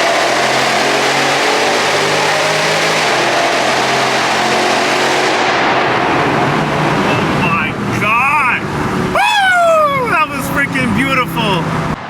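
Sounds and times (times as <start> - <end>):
car engine and exhaust: 0.0 - 12.0
road and wind noise: 0.0 - 12.0.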